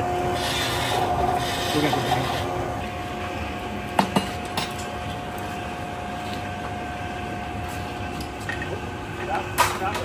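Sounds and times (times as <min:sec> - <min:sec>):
workshop machinery hum and hiss: 0:00.0 - 0:10.0.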